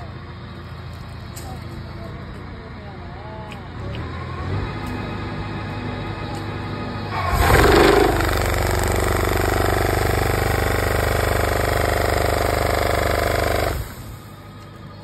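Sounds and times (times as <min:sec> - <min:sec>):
tree shaker machine engine drone: 0:00.0 - 0:15.0.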